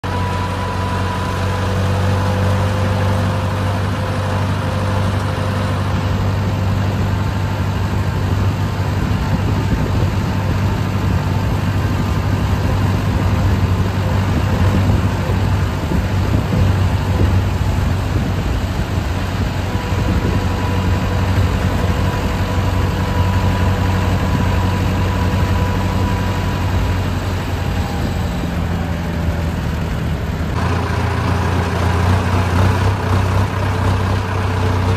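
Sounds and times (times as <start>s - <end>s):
tractor diesel engine humming: 0.0s - 34.9s.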